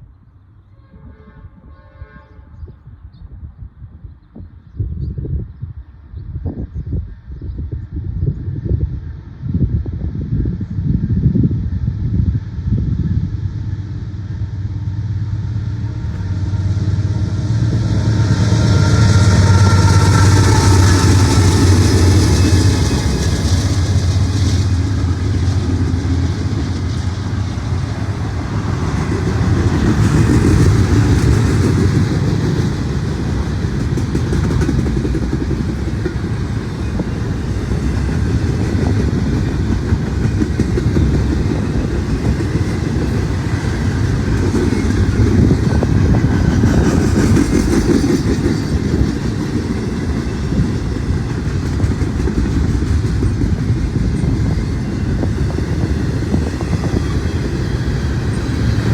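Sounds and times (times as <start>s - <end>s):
freight train rolling past: 4.4s - 58.9s.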